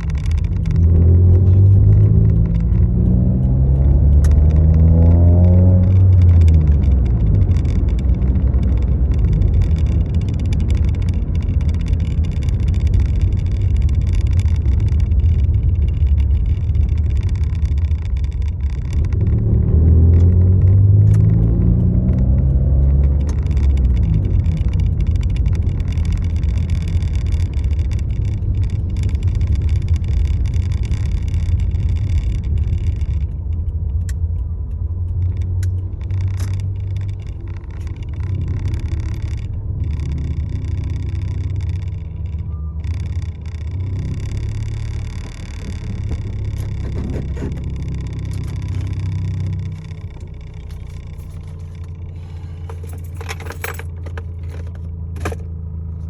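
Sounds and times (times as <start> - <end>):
motor vehicle engine rumble: 0.0 - 56.0.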